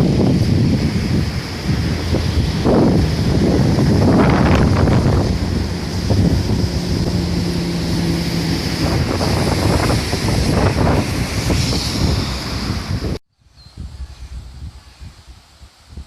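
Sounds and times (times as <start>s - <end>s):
river rushing: 0.0s - 13.2s
wind buffeting microphone: 0.0s - 16.0s.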